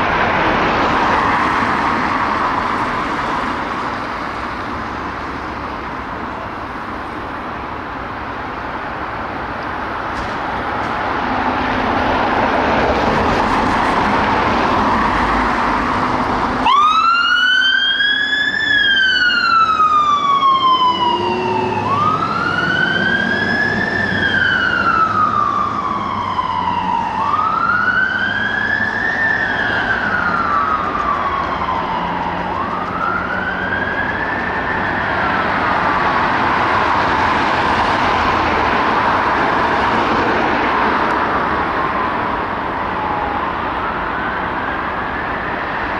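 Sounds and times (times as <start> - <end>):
fire engine siren wailing: 0.0 - 45.9
vehicle engine noise: 0.0 - 45.9.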